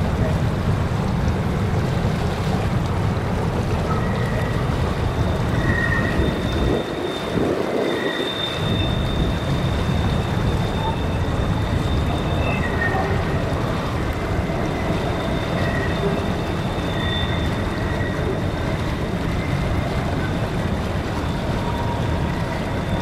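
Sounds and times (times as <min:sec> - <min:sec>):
creek water rushing: 0:00.0 - 0:23.0
freight train rumbling on bridge: 0:00.0 - 0:23.0.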